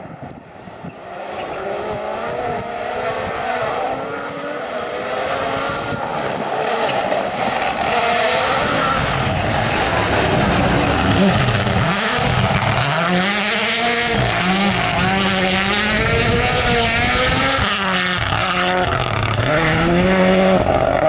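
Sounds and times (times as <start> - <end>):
rally car engine revving: 0.6 - 21.0.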